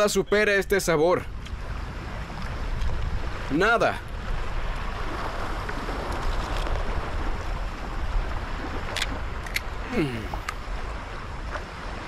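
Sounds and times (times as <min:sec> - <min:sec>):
wind rumble with hiss: 0:00.0 - 0:12.0.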